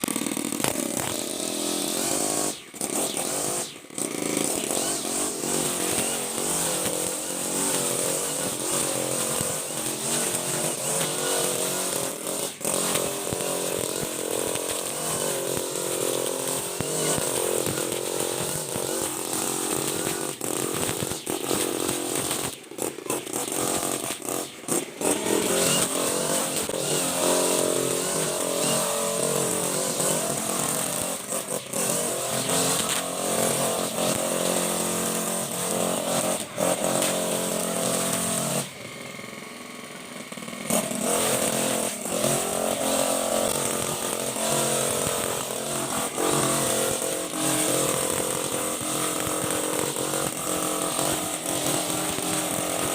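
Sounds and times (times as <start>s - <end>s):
brush cutter engine revving: 0.0s - 52.9s.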